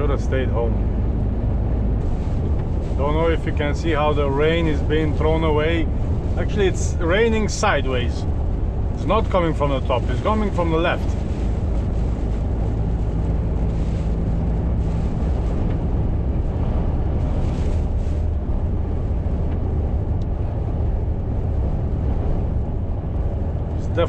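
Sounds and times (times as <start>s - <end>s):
truck engine and tyres rumbling: 0.0s - 24.0s.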